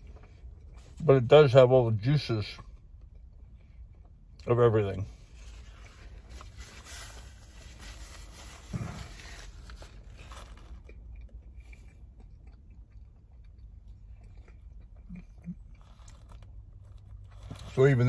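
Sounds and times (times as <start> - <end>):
man chewing soft food: 0.0 - 1.0, 2.6 - 4.5, 5.2 - 17.8.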